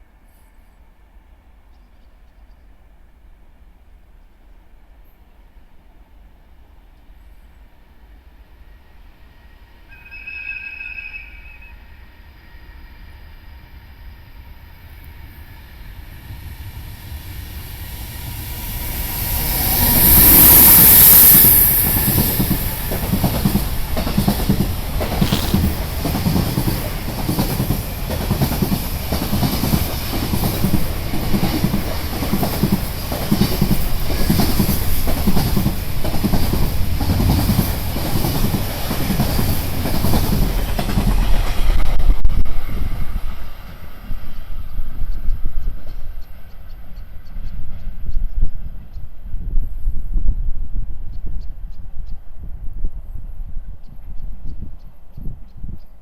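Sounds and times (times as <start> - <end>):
electric locomotive passing: 5.3 - 51.1.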